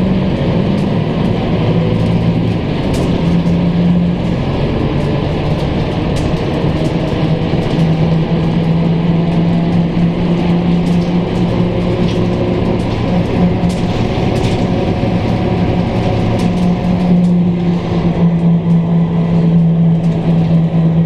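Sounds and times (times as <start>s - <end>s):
bus engine humming: 0.0s - 21.0s
interior clicks and rattles: 0.0s - 21.0s.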